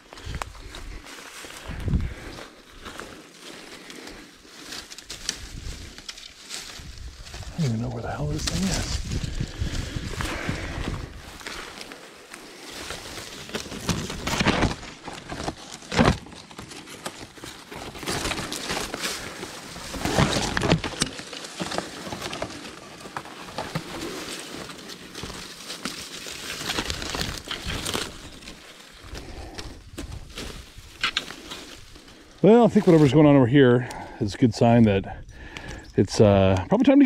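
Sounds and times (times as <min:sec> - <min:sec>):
dry reeds rustling and crackling: 0:00.0 - 0:37.0.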